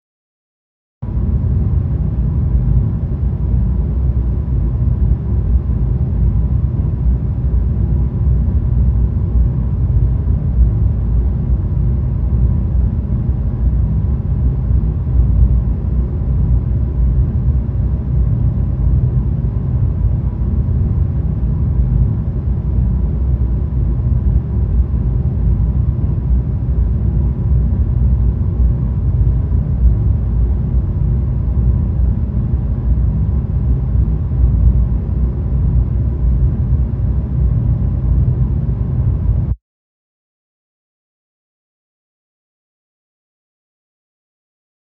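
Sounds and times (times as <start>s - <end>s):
air conditioner fan whooshing: 1.0s - 39.6s.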